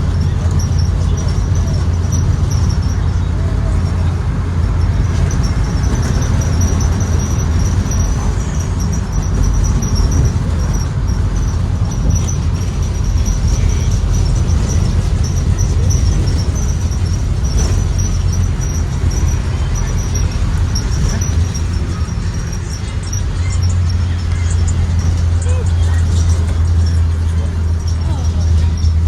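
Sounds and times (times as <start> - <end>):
bus engine and road rumble: 0.0 - 29.0
high-pitched whine: 0.1 - 29.0.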